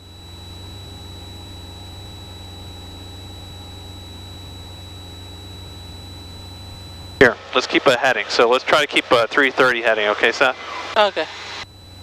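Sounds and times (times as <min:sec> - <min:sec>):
high-pitched whine: 0:00.0 - 0:12.0
propeller plane engine droning: 0:00.0 - 0:12.0.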